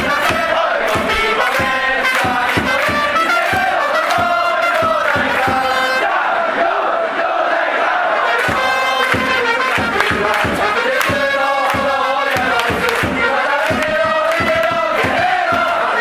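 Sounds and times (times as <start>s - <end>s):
steady drum beat: 0.0s - 6.0s, 8.4s - 16.0s
trumpets playing melody: 0.0s - 6.3s, 8.0s - 16.0s
crowd singing in unison: 0.0s - 16.0s.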